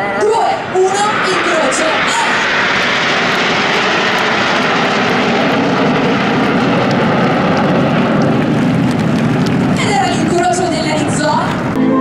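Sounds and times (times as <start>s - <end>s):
jet engines flying over: 0.0s - 12.0s.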